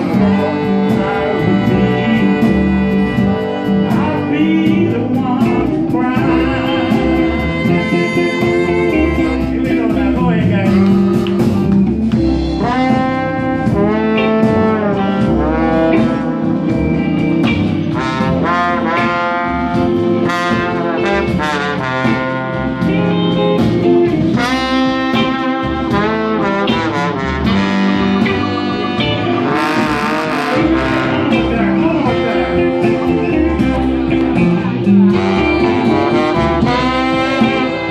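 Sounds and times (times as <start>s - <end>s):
electric guitar: 0.0s - 37.9s
rhythm section: 0.0s - 37.9s
tenor saxophone: 0.0s - 37.9s
trombone: 0.0s - 37.9s.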